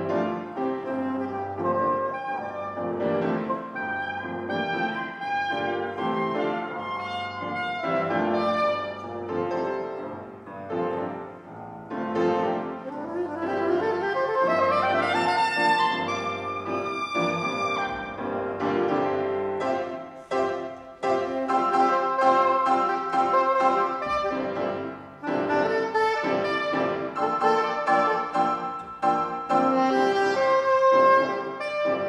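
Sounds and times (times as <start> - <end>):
piano chords: 0.0 - 32.0
soprano saxophone melody: 0.1 - 11.2, 12.5 - 32.0.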